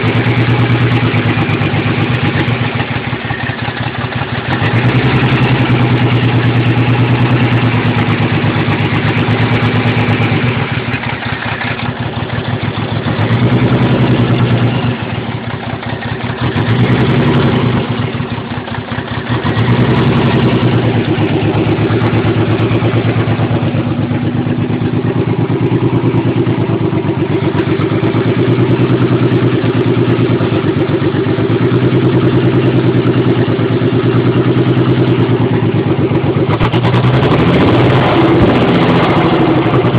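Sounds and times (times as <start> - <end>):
car engine running rough: 0.0 - 39.9.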